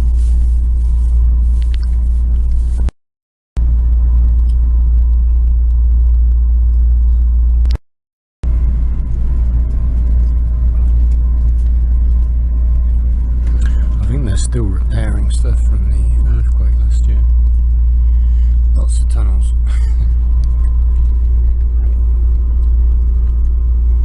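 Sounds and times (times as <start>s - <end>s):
train rumbling inside carriage: 0.0s - 2.9s, 3.6s - 7.8s, 8.4s - 24.0s.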